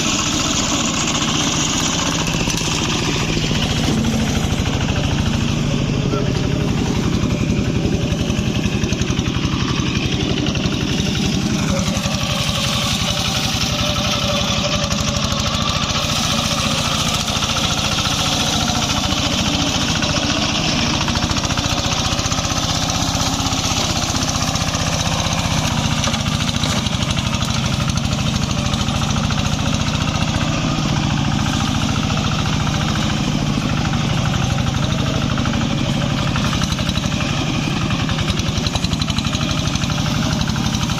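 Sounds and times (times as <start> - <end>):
grass cutter engine running: 0.0 - 40.9.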